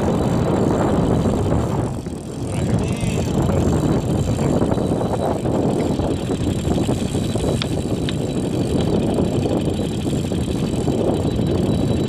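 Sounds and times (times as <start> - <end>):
fishing reel whirring and clicking: 0.0 - 12.0
sharp ticks: 0.0 - 12.0
steady rushing noise: 0.0 - 12.0.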